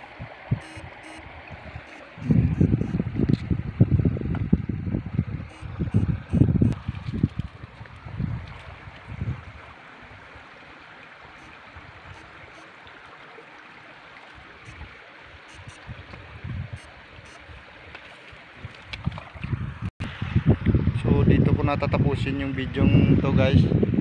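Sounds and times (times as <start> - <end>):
water rushing in ditch: 0.0 - 21.0.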